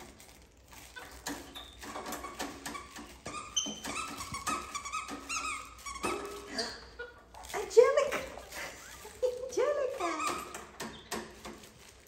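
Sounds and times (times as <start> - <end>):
monkey squeaking and chirping: 0.8 - 11.2.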